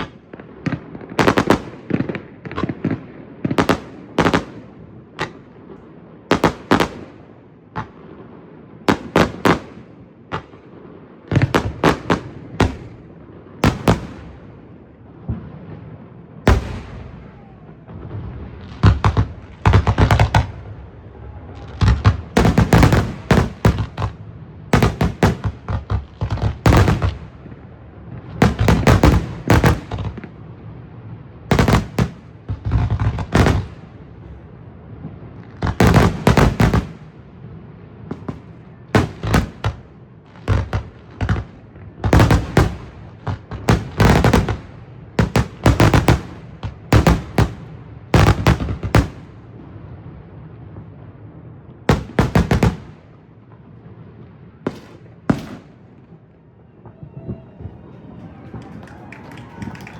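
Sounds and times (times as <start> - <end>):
fireworks bursting with loud bangs: 0.0 - 59.9.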